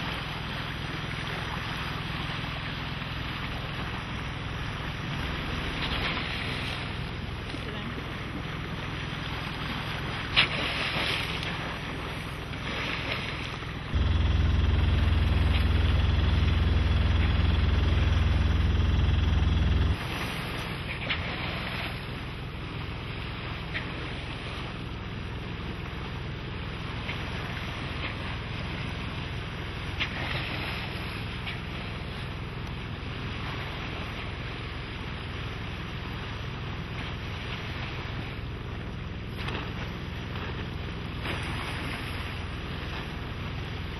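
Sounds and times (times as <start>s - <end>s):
porpoise splash: 0.0s - 18.0s, 19.9s - 43.9s
boat engine low rumble: 0.0s - 43.9s
water: 0.0s - 43.9s
wind: 0.0s - 43.9s.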